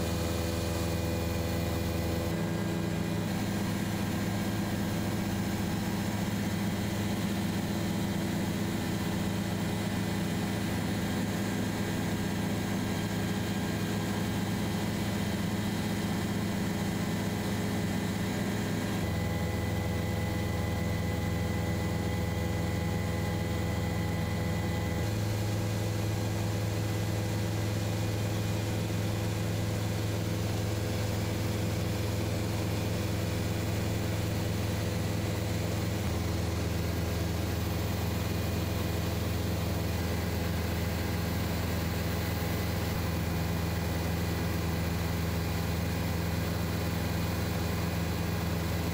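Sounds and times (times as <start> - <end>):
helicopter engine and rotor drone: 0.0 - 48.9.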